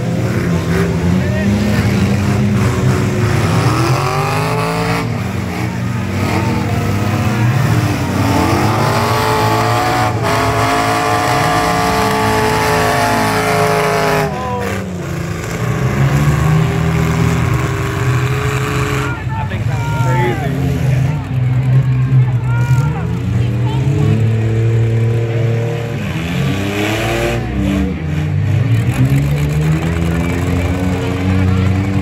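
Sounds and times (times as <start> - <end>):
truck engines revving: 0.0 - 32.0.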